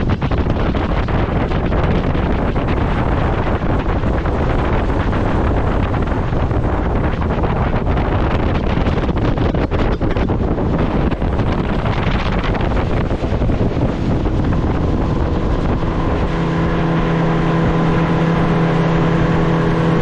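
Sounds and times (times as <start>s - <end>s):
motorboat engine hum: 0.0s - 20.0s
wind buffeting microphone: 0.0s - 20.0s.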